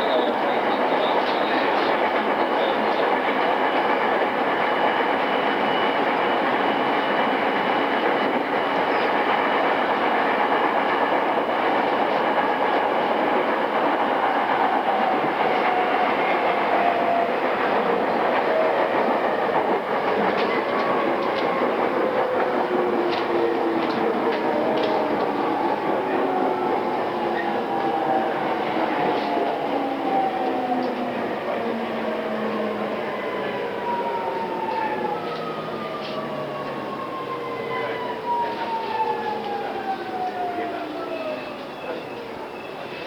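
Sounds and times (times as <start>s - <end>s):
rail clicks: 0.0s - 43.0s
train wheels rumbling on rails: 0.0s - 43.0s.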